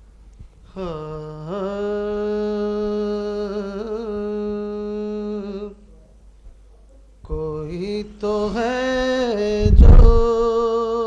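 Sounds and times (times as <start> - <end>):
man singing a long held note: 0.7 - 5.9, 7.2 - 11.0.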